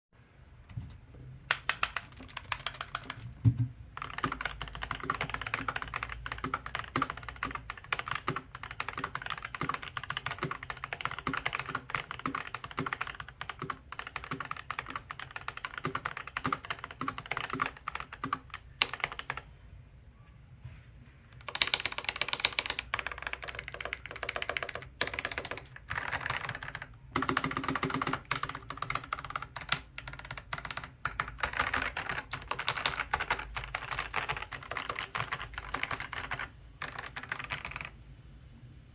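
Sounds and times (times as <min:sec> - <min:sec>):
mechanical keyboard typing: 0:01.5 - 0:19.4, 0:21.4 - 0:38.0.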